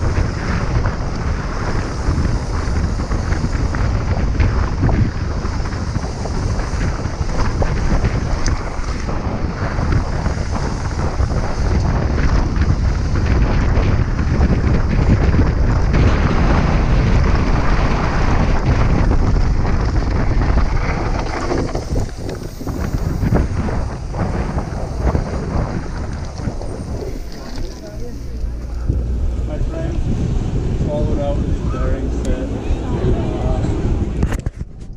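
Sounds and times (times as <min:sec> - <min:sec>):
bike rattling over gravel: 0:00.0 - 0:29.8
wind rushing over microphone: 0:00.0 - 0:34.9.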